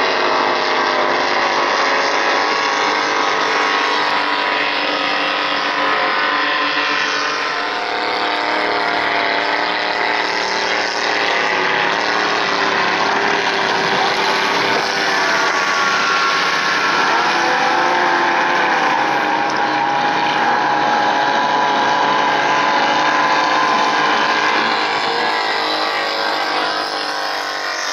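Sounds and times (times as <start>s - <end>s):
speedboat engines racing: 0.0s - 27.9s.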